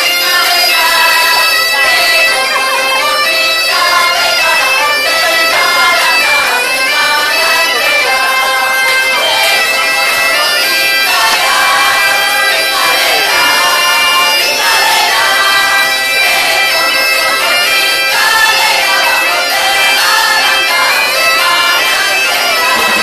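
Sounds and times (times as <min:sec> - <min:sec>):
bagpipe drone: 0:00.0 - 0:23.0
bagpipe playing folk tune: 0:00.0 - 0:23.0.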